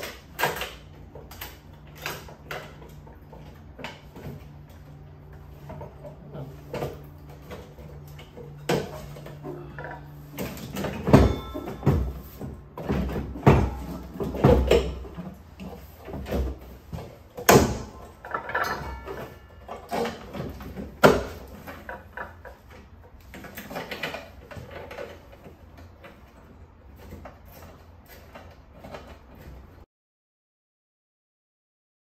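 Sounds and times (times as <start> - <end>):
clunks and plastic rattling: 0.0 - 29.8.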